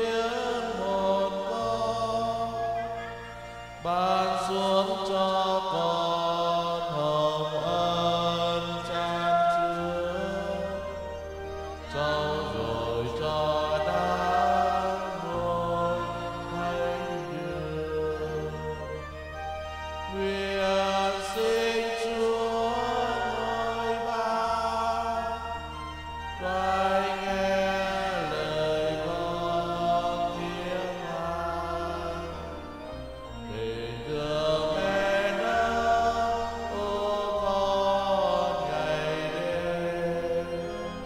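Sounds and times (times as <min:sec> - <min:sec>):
choir singing a hymn: 0:00.0 - 0:41.0
sustained keyboard chords: 0:00.0 - 0:41.0.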